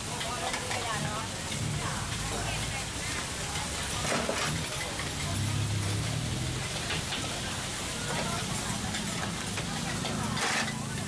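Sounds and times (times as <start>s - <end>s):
people talking: 0.0s - 11.0s
wok frying hiss: 0.0s - 11.0s.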